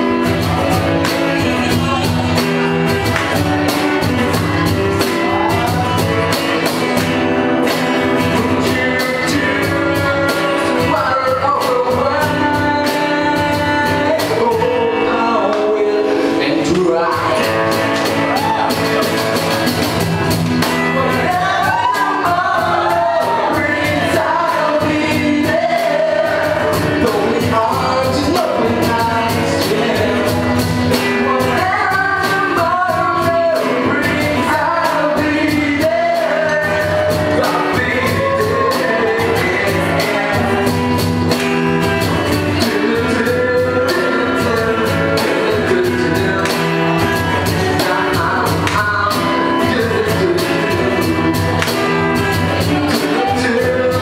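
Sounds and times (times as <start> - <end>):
bass: 0.0 - 54.0
guitars: 0.0 - 54.0
person singing: 0.0 - 54.0
steady drum beat: 0.0 - 54.0.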